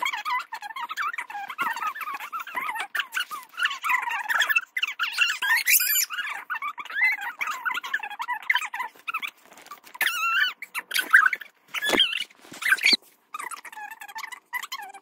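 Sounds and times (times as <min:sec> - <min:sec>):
child squealing and giggling: 0:00.0 - 0:15.0.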